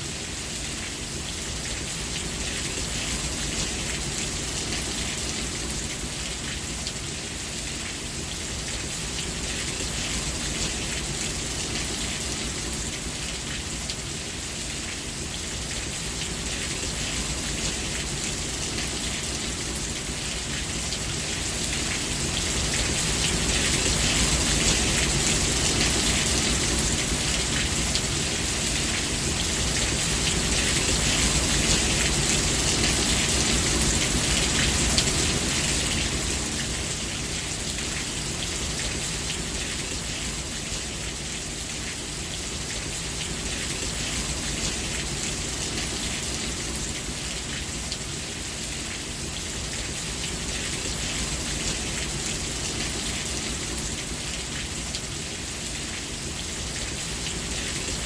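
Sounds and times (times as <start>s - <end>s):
heavy rain falling: 0.3s - 58.0s.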